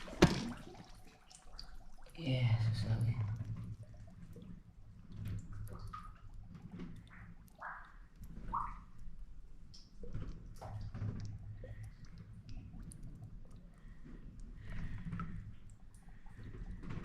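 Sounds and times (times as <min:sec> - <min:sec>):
shallow water splashing: 0:00.0 - 0:17.0.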